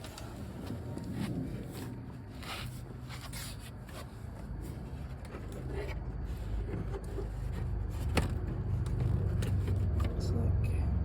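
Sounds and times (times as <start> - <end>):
low steady hum: 0.0 - 11.0
plastic trim panel rustling and scraping: 1.0 - 10.2.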